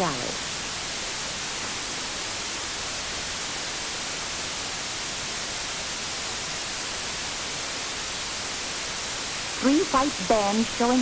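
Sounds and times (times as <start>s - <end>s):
tv static hiss: 0.0s - 11.0s.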